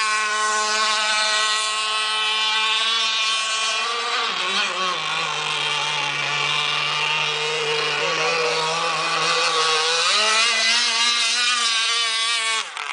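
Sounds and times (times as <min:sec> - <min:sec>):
rc boat engine buzzing: 0:00.0 - 0:12.9.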